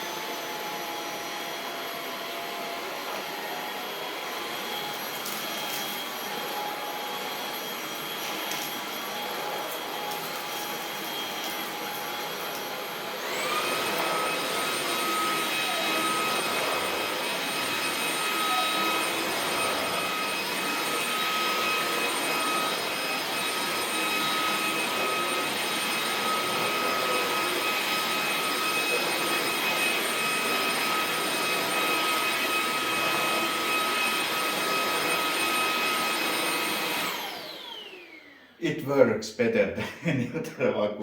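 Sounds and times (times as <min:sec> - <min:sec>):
stick vacuum running: 0:00.1 - 0:38.5.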